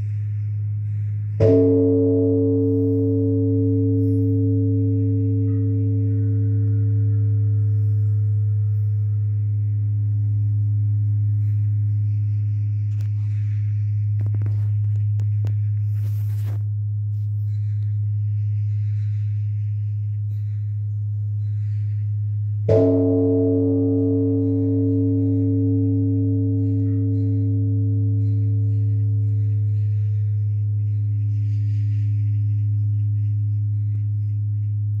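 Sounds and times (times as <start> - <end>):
large bronze bell humming: 0.0 - 35.0.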